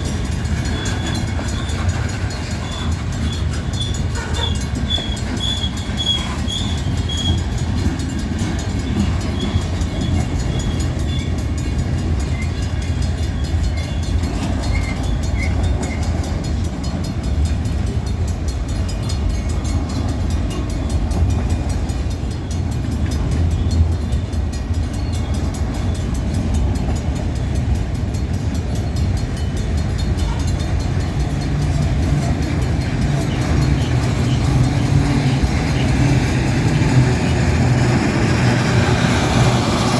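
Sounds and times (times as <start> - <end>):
train rumbling past: 0.0 - 39.9.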